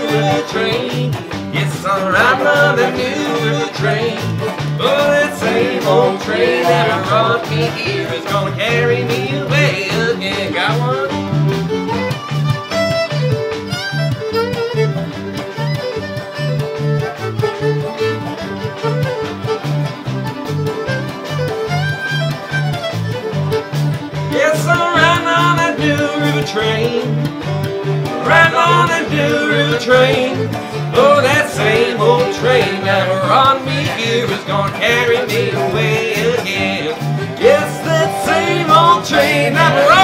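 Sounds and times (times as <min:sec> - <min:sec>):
acoustic guitars rhythm: 0:00.0 - 0:40.0
electric bass beat: 0:00.0 - 0:40.0
fiddle melody: 0:00.0 - 0:40.0.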